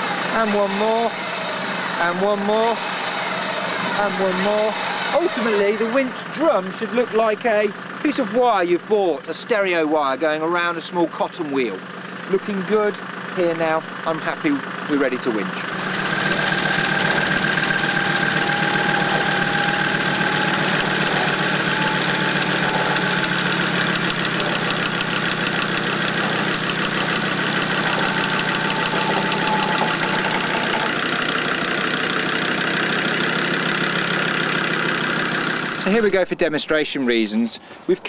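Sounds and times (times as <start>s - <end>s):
electric winch whine: 0.0s - 8.4s, 13.1s - 36.1s
vehicle engine running: 0.0s - 36.3s.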